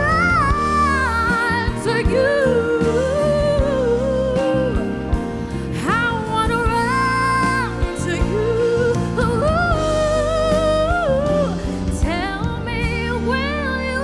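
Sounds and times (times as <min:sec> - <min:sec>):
live band backing: 0:00.0 - 0:14.0
solo singer with vibrato: 0:00.0 - 0:14.0.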